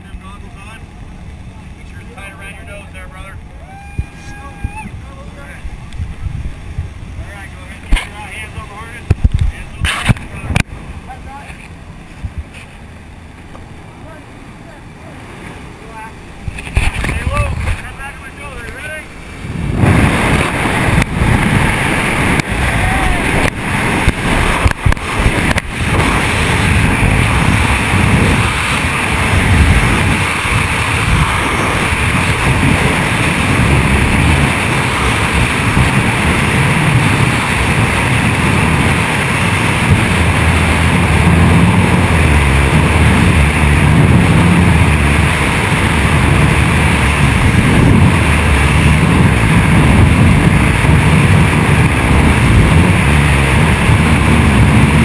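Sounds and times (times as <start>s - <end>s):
freefall wind rushing: 0.0s - 55.0s.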